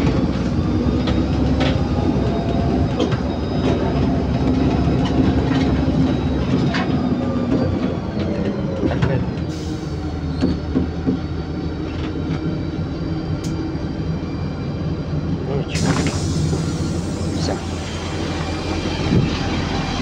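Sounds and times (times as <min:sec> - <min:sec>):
bus engine and road drone: 0:00.0 - 0:20.0.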